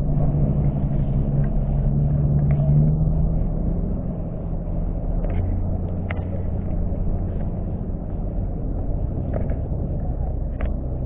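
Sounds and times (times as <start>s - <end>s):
deep hum: 0.0s - 11.0s
distant engines rumbling: 0.0s - 11.0s.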